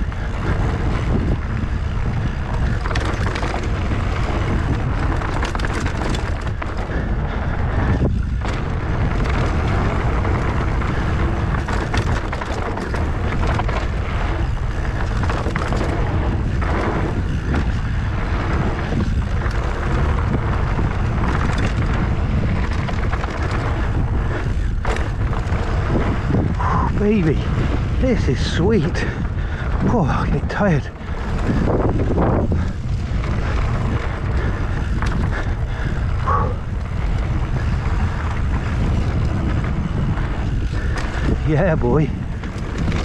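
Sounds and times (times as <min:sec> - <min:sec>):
bike clicks and rattles: 0:00.0 - 0:43.0
bike tyre noise on dirt: 0:00.0 - 0:43.0
wind buffeting microphone: 0:00.0 - 0:43.0.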